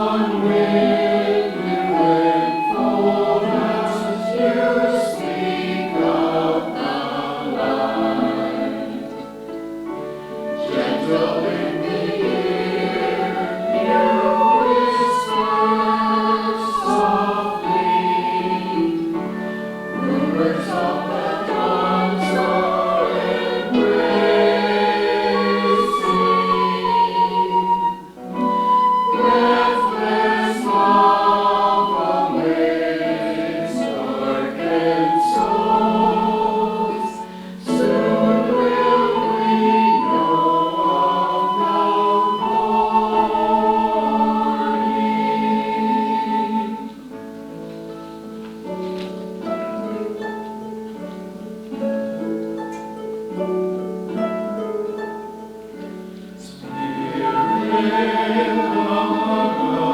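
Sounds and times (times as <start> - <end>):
choir singing held notes: 0.0 - 59.9.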